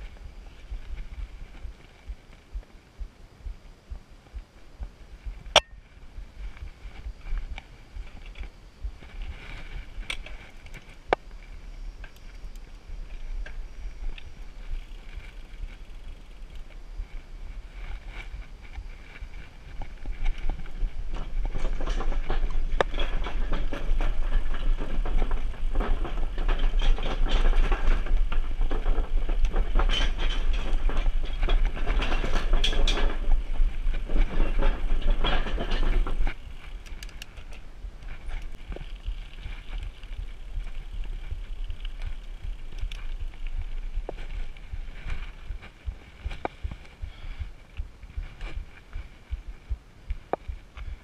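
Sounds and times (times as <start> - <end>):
boards rattling under bike tyres: 0.0 - 4.0, 4.6 - 51.0
bike tyres on asphalt: 0.0 - 51.0
wind rumble on microphone: 0.0 - 51.0.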